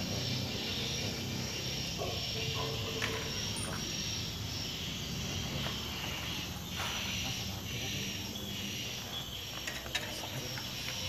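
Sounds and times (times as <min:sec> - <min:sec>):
insects hissing: 0:00.0 - 0:11.0.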